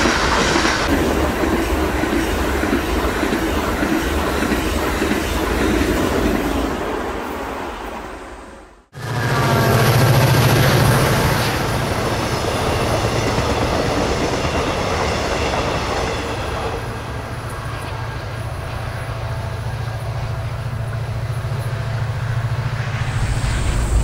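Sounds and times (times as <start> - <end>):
passenger train rolling past: 0.0 - 24.0.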